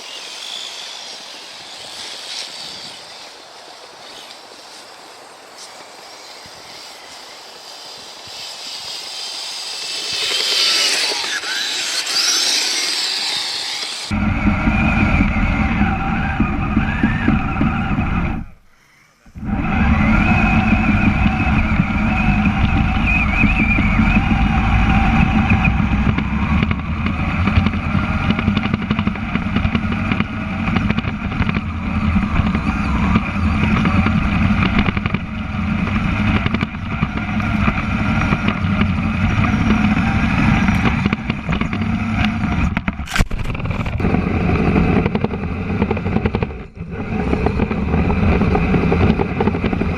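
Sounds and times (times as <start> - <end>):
toy motor and gearbox whine: 0.0 - 4.4, 6.0 - 49.9
tracks rattling and rumbling: 6.8 - 18.6, 19.3 - 49.9.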